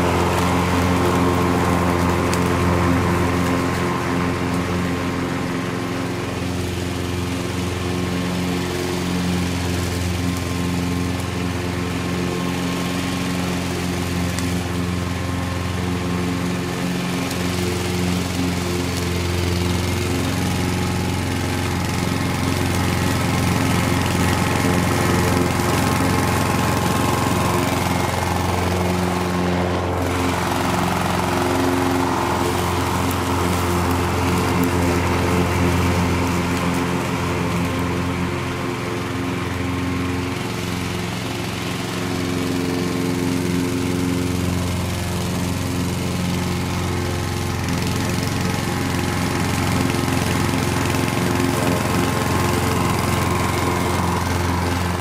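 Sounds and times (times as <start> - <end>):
lawn mower cutting grass: 0.0 - 55.0.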